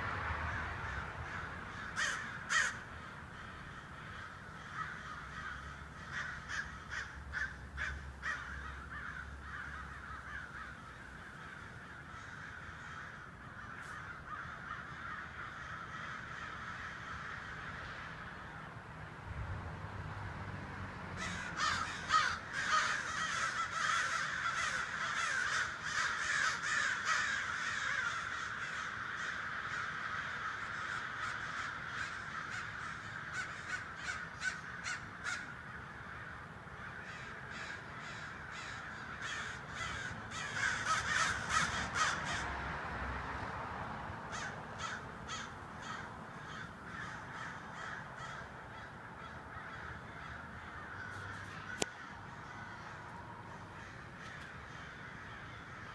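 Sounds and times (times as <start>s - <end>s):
flock of birds chattering: 0.6s - 18.6s, 21.2s - 42.4s, 44.3s - 55.9s.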